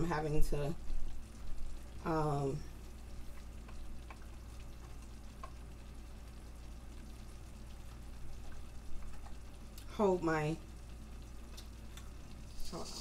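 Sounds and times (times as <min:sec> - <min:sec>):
gravy simmering with small pops: 0:00.0 - 0:13.0.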